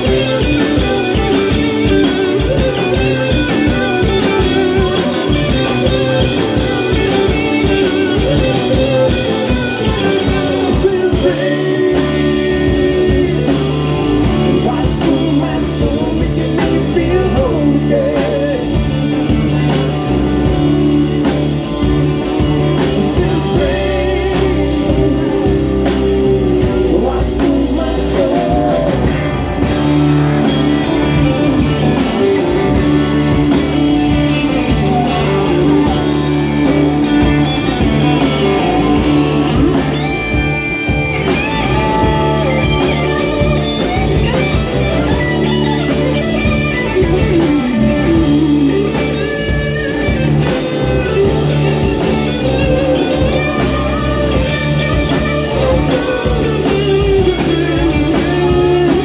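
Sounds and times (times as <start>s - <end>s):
sung vocals: 0.0s - 21.0s, 22.5s - 31.2s, 31.8s - 49.7s
live rock band playing: 0.0s - 59.0s.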